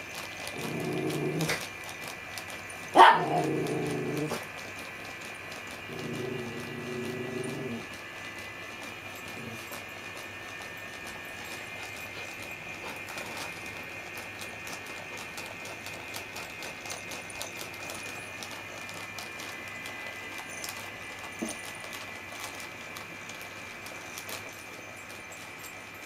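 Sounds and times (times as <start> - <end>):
thin motor whine: 0.0 - 26.0.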